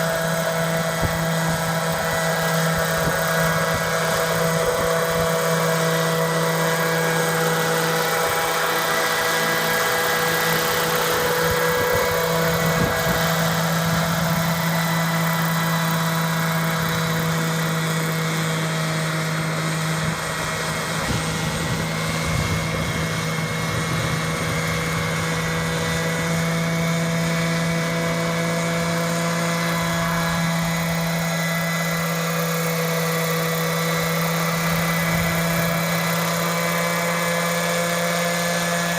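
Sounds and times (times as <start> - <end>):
model helicopter engine and rotor: 0.0 - 38.9.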